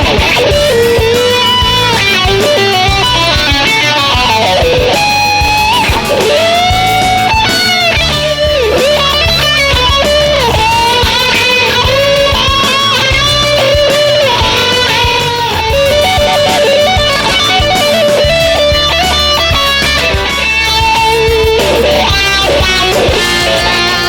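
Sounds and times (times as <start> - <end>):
bass line: 0.0 - 24.0
electric guitar lead melody: 0.0 - 24.0
steady beat: 0.0 - 24.0.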